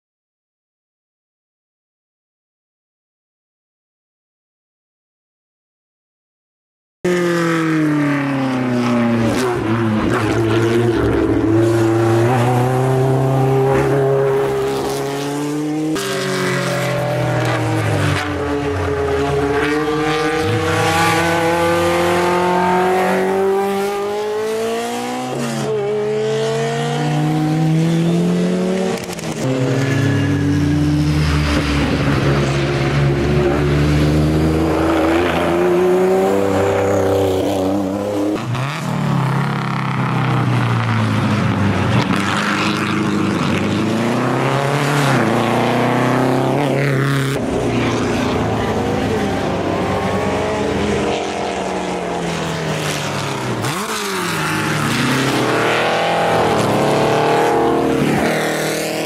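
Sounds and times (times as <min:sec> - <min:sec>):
racing car engine at full throttle: 0:07.1 - 0:59.0.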